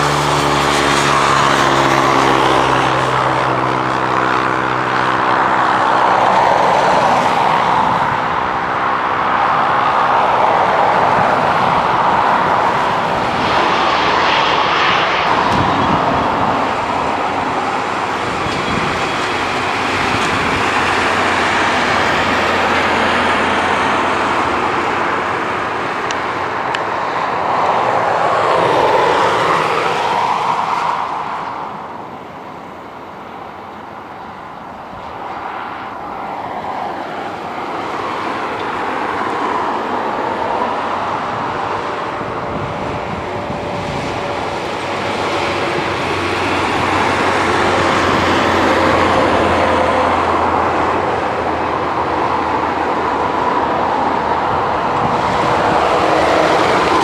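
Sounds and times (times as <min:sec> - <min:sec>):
jet engines rushing with whine: 0:00.0 - 0:57.0.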